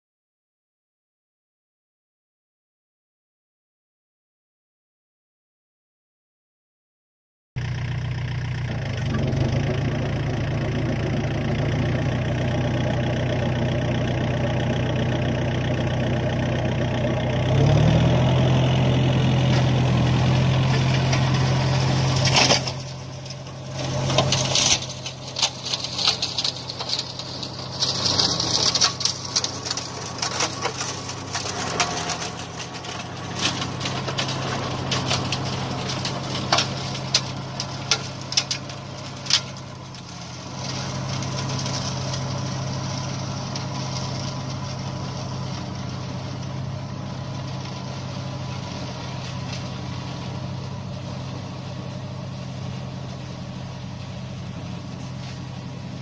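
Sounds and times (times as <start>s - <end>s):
tractor engine running: 7.6s - 56.0s.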